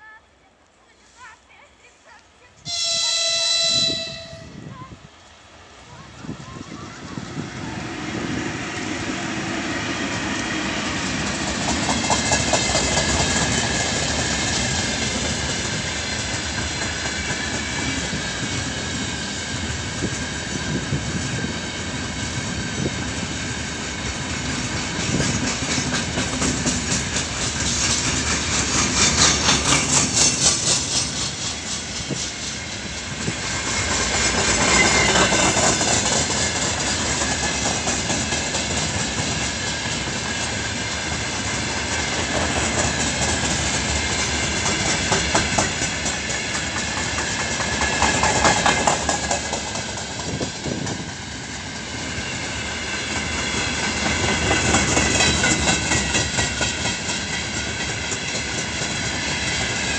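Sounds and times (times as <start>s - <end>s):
train wheels rumbling on rails: 2.1s - 59.9s
clickety-clack over rail joints: 10.1s - 19.1s, 20.0s - 51.6s, 52.5s - 59.9s.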